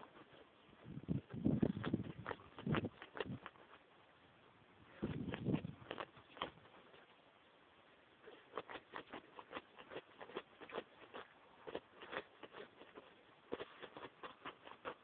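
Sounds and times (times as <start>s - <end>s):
dog digging in gravelly soil: 0.0s - 3.9s, 5.0s - 7.1s, 8.2s - 15.0s.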